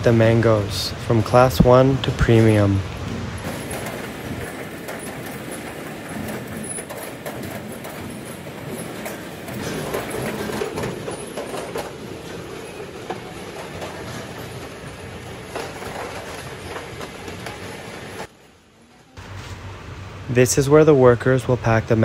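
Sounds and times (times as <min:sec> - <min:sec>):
roller conveyor rattling: 0:00.0 - 0:18.6.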